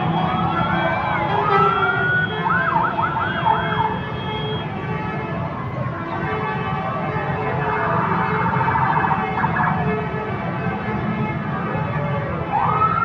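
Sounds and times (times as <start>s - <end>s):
musical bus horn tune: 0.0s - 12.0s.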